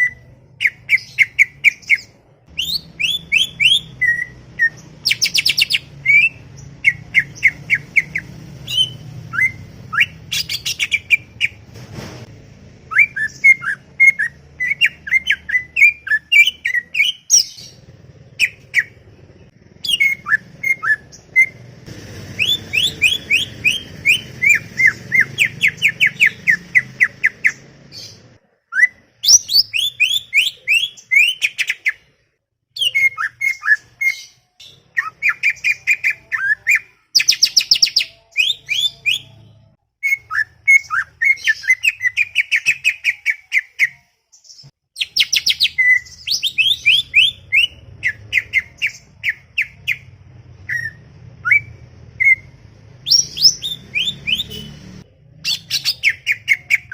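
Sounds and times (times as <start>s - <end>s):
bird singing chattering song: 0.0s - 11.6s, 12.9s - 21.7s, 22.3s - 32.0s, 32.8s - 56.9s.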